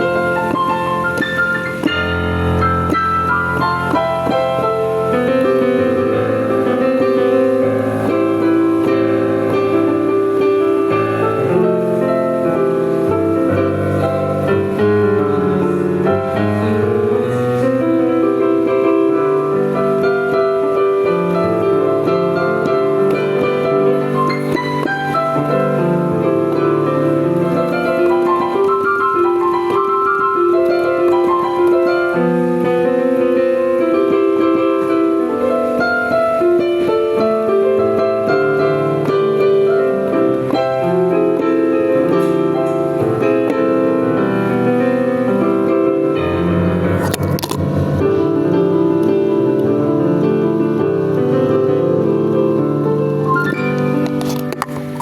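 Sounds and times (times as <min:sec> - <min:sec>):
digital piano solo: 0:00.0 - 0:55.0.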